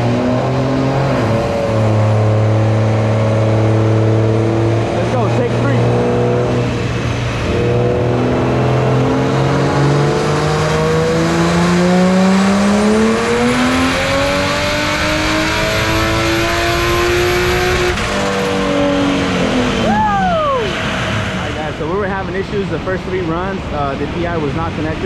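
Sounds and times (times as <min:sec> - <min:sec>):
car engine revving at full throttle: 0:00.0 - 0:25.0.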